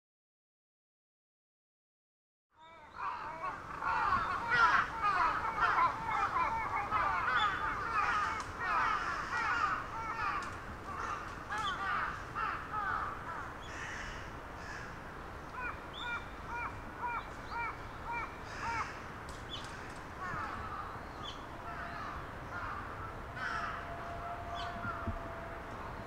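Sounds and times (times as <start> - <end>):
birds chirping: 2.6 - 26.0
repeated bird calls: 2.6 - 26.0.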